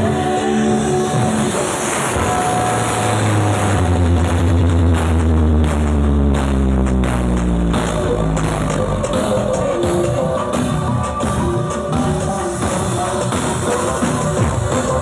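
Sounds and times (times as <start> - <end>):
deep bass: 0.0 - 15.0
loud electronic dance music: 0.0 - 15.0.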